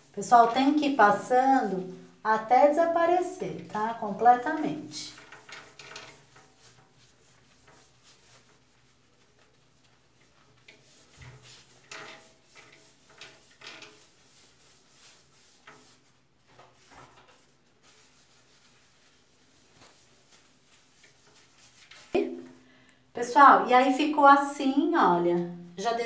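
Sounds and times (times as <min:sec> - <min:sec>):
wipe rubbing on glass mirror: 0:00.0 - 0:22.4.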